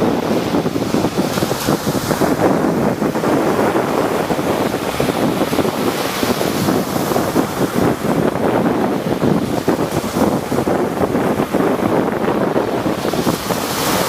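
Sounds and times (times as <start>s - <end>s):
waves breaking: 0.0s - 14.0s
wind buffeting microphone: 0.0s - 14.0s.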